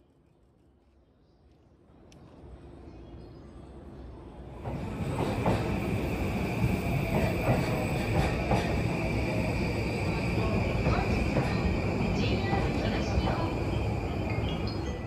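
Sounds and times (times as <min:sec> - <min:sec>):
electric train running past: 0:02.2 - 0:15.0.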